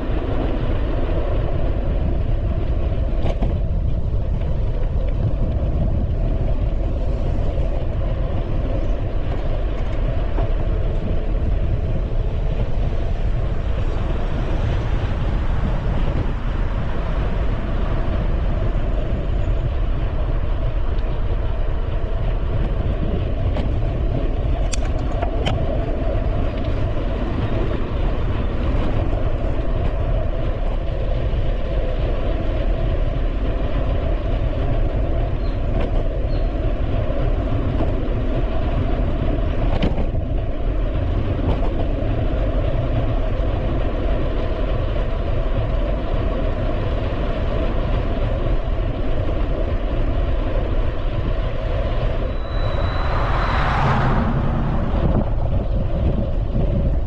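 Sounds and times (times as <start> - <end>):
bicycle tyre rumble: 0.0 - 57.0
wind on microphone: 0.0 - 57.0.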